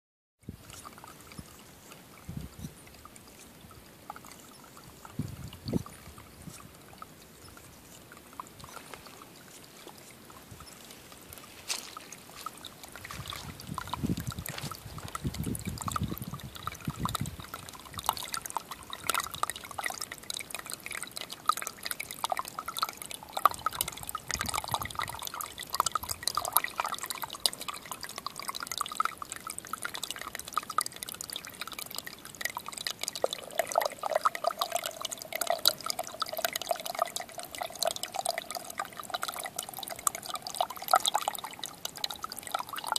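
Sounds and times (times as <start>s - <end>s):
water gurgling and trickling: 0.4s - 42.9s.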